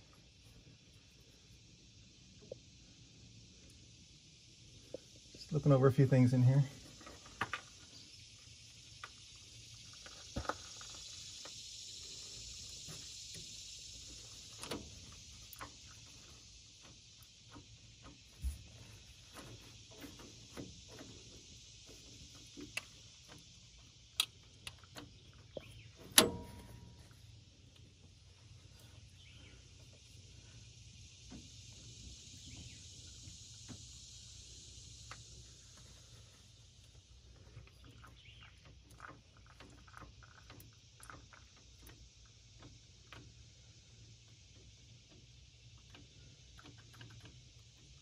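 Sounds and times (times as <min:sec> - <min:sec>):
steady high hiss: 0:00.0 - 0:48.0.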